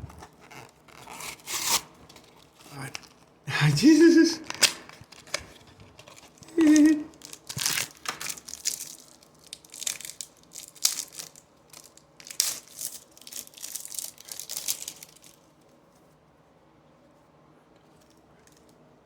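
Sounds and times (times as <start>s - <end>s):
wrapper crinkling and tearing: 0.0s - 15.5s.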